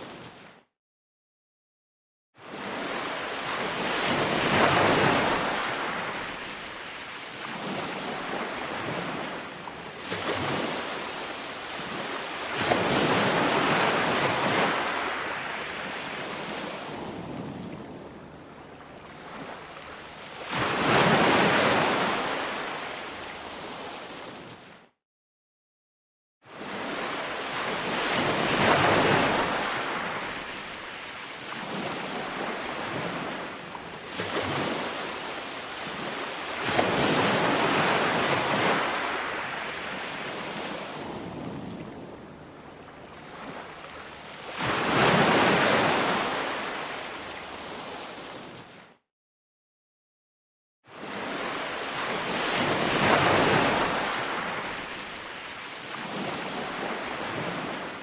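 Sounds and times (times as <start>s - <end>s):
ocean waves breaking on shore: 0.0s - 0.7s, 2.4s - 25.0s, 26.5s - 49.0s, 50.9s - 58.0s.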